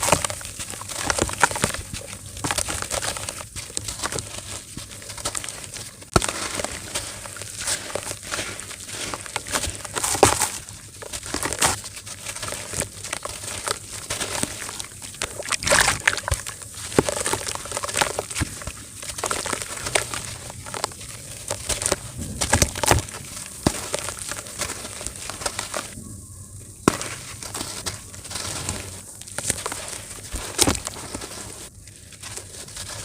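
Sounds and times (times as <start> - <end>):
dirt clumps crumbling and crunching: 0.0 - 33.0.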